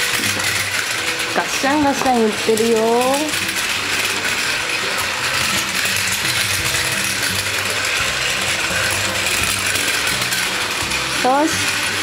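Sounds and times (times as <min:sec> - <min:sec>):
toy train clattering on track: 0:00.0 - 0:12.0
toy train motor whirring: 0:00.0 - 0:12.0.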